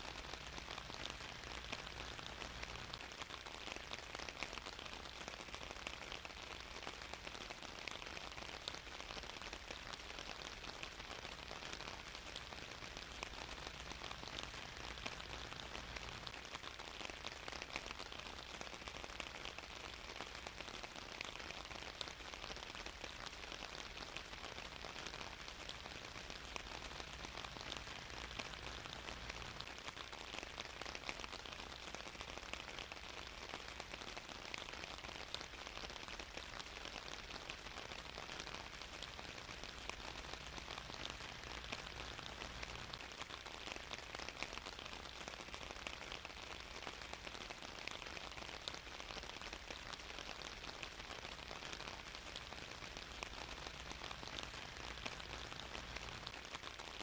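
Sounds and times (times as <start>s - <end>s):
rain patter: 0.0s - 57.0s.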